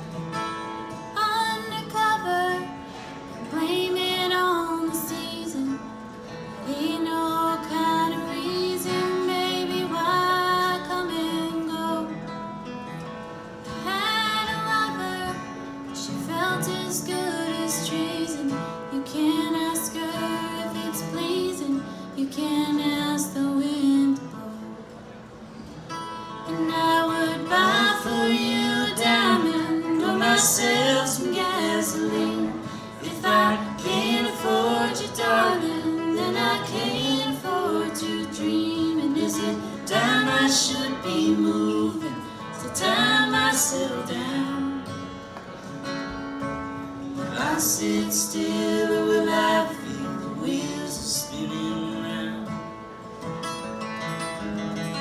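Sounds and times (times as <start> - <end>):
acoustic guitar strummed: 0.0 - 55.0
woman singing: 1.2 - 2.8, 3.4 - 6.0, 6.6 - 12.2, 13.8 - 24.6, 26.5 - 44.9, 47.3 - 52.5.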